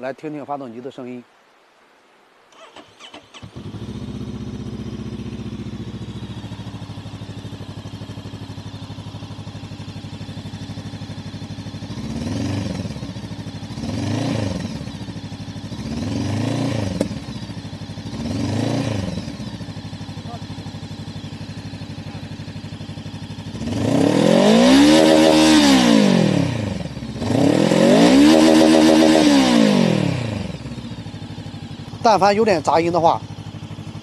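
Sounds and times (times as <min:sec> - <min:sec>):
motorcycle engine revving: 0:02.6 - 0:34.0.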